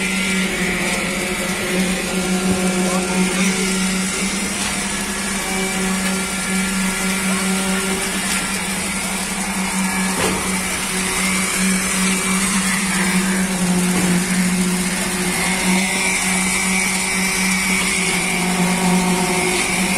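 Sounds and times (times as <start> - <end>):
concrete pump droning: 0.0 - 19.9
poker vibrators buzzing: 0.0 - 19.9.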